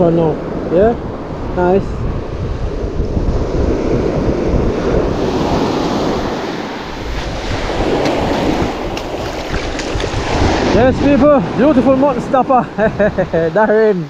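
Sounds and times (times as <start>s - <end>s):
surf washing over sand: 0.0s - 14.0s.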